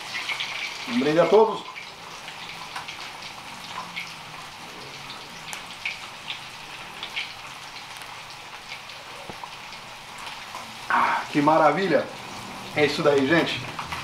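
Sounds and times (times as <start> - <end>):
pork frying in hot oil: 0.0 - 14.0.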